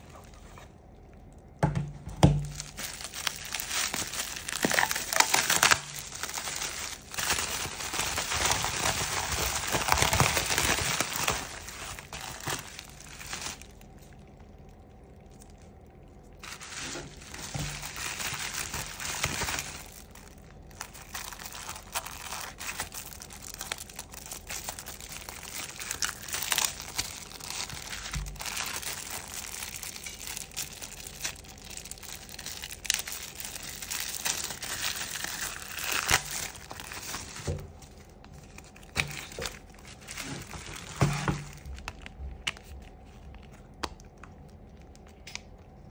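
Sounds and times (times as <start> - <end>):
plastic packaging crinkling: 2.1 - 45.9.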